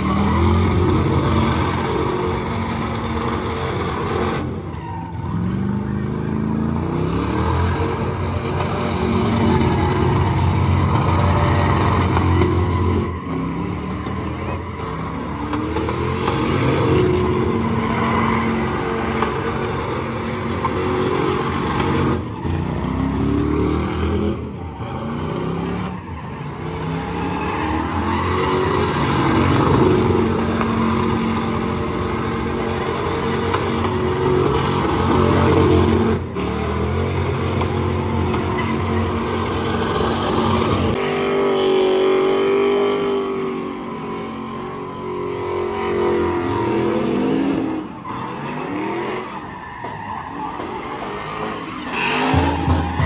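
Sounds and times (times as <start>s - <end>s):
tire squeal: 0.0s - 53.0s
truck engine revving hard: 0.0s - 53.0s.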